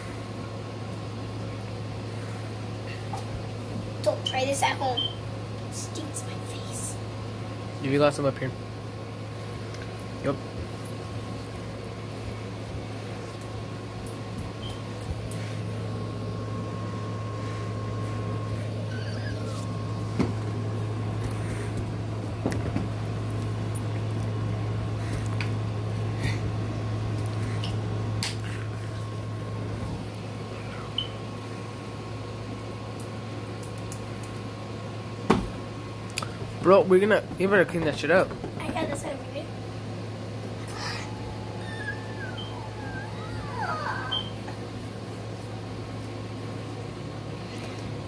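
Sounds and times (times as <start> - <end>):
electric fan humming: 0.0 - 48.0.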